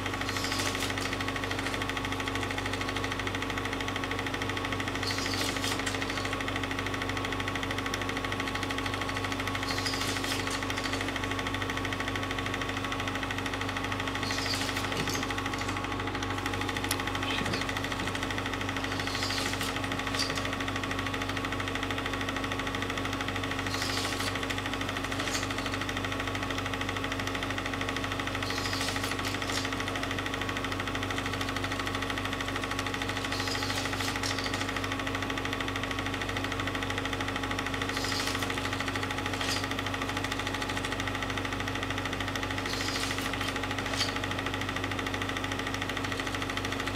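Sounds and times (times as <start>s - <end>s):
film projector hum and clatter: 0.0s - 46.9s.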